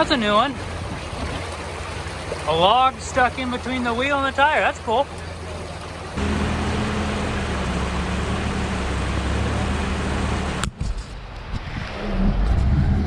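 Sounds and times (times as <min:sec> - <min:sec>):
truck engine running: 0:00.0 - 0:10.7.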